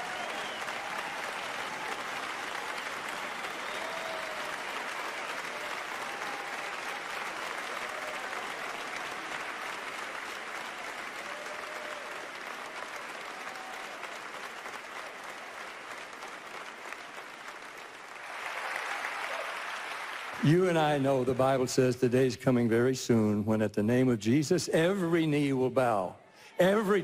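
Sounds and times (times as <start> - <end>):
large audience applauding: 0.0 - 21.9.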